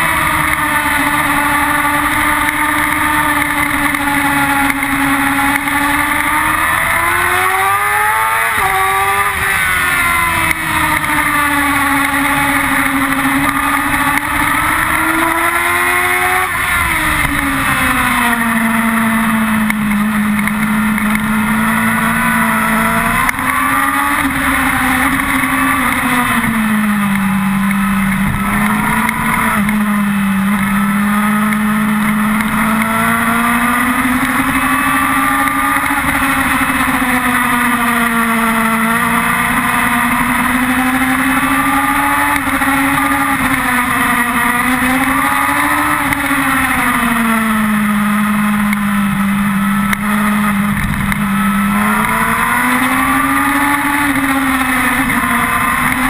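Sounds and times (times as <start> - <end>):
motorcycle engine revving high: 0.0 - 56.0
wind and road noise: 0.0 - 56.0.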